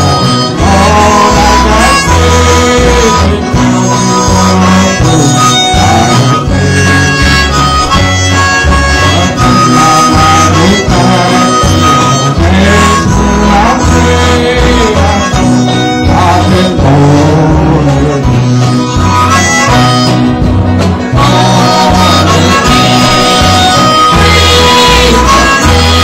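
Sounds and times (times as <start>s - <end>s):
bass line: 0.0s - 26.0s
strummed acoustic guitars: 0.0s - 26.0s
sustained lead melody: 0.0s - 26.0s.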